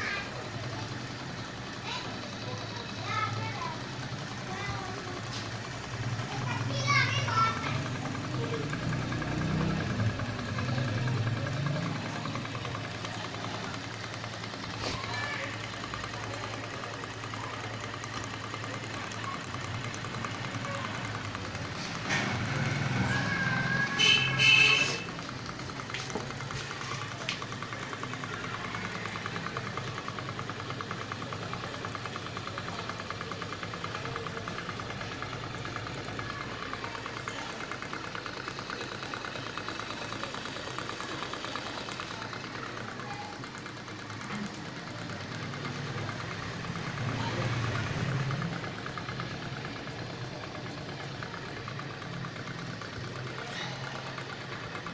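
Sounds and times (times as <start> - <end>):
model engine mechanical ticking: 0.0 - 54.9.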